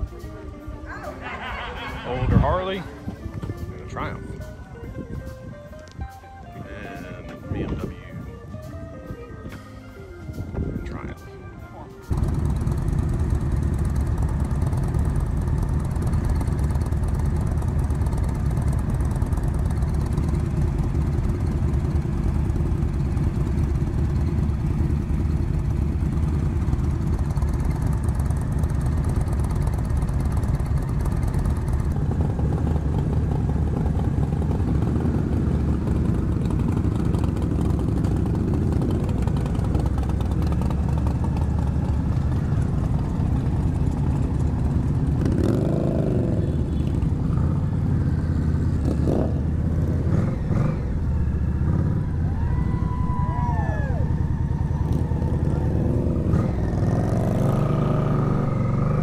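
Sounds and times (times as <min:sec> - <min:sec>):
motorcycle engines idling: 0:00.0 - 0:59.0
motorcycles moving off: 0:00.0 - 0:59.0.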